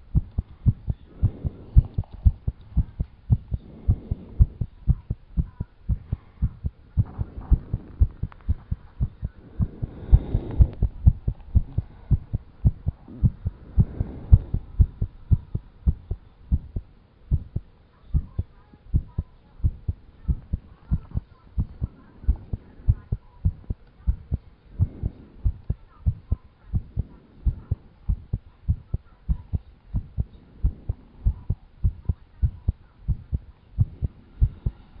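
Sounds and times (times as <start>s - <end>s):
fast heartbeat thumps: 0.0s - 34.8s.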